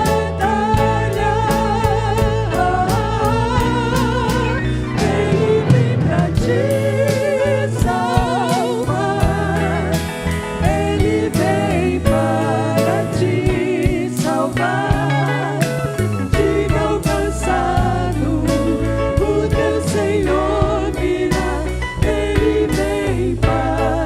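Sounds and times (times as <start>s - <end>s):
band with bass and beat: 0.0s - 24.0s
voices singing with vibrato: 0.0s - 24.0s.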